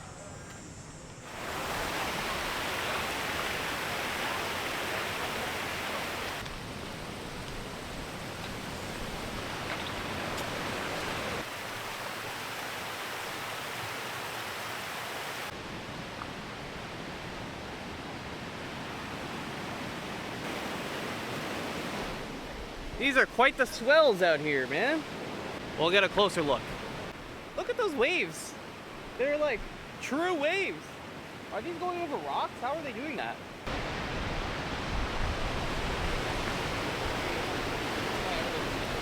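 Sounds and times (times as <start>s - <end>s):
river rapids rushing: 1.3s - 15.5s, 18.7s - 39.0s.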